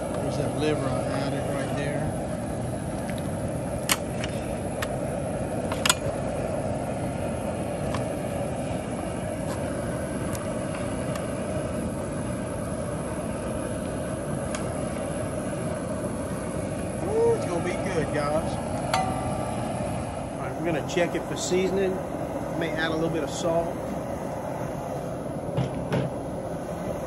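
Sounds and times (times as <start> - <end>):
propane burner running: 0.0 - 27.0.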